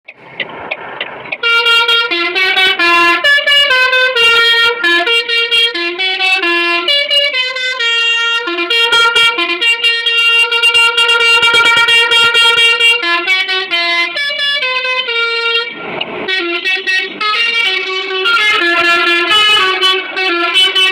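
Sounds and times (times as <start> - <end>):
multi-tone bus horn melody: 1.3 - 20.9.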